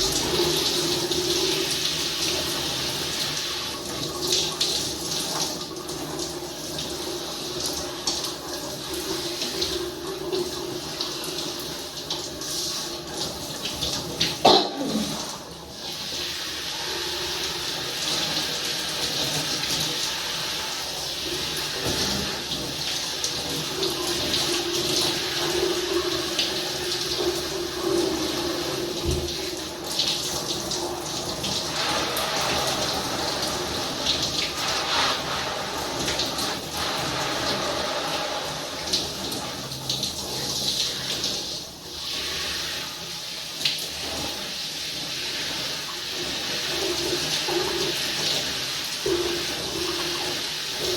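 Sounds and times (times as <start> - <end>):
running water splashing: 0.0 - 50.9.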